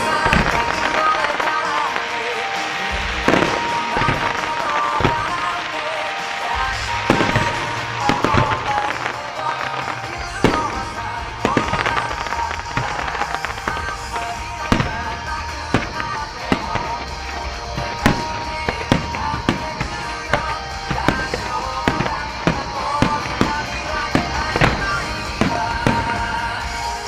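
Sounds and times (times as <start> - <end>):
fireworks bursting with bangs: 0.0 - 27.0
pop music with bass line: 0.0 - 27.0.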